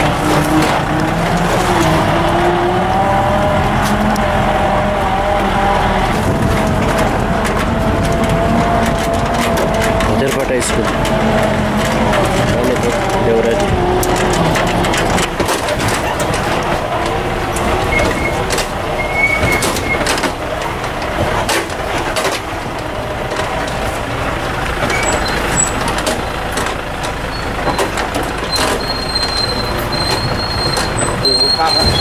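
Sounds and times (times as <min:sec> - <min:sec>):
heavy vehicle engine rumble: 0:00.0 - 0:32.0
vehicle body rattling: 0:00.0 - 0:32.0.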